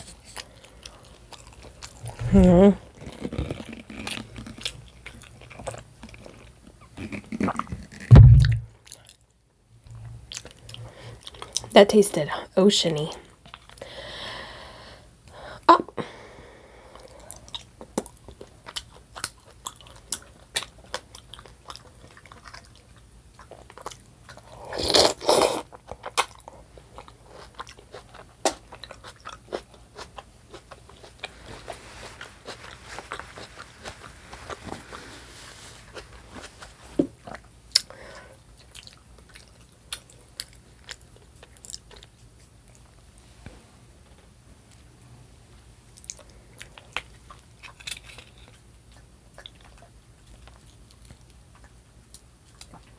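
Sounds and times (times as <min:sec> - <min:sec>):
person chewing food: 0:00.0 - 0:09.3, 0:10.2 - 0:11.7, 0:13.2 - 0:14.8, 0:16.8 - 0:43.0, 0:45.9 - 0:52.9.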